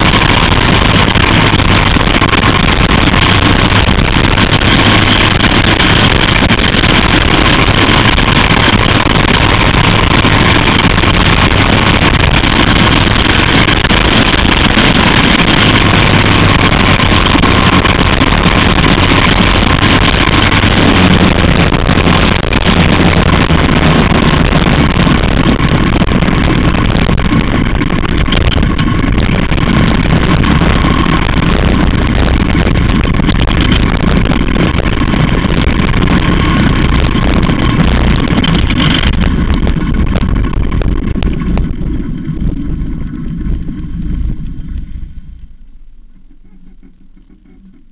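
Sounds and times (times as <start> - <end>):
racing car engine: 0.0 - 47.9.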